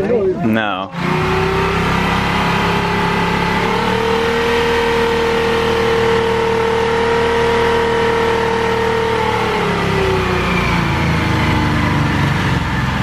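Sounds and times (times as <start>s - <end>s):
ferry engine running: 0.9s - 13.0s.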